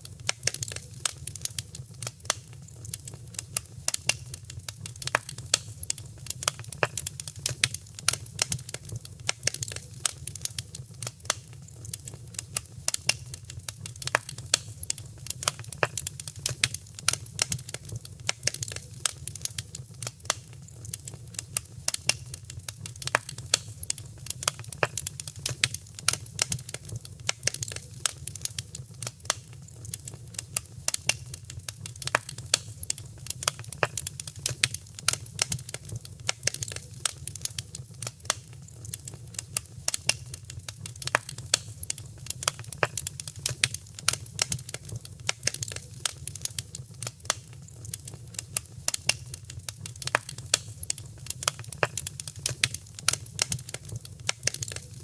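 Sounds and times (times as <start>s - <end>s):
fire popping and snapping: 0.0s - 55.0s
low rumble of flames: 0.0s - 55.0s.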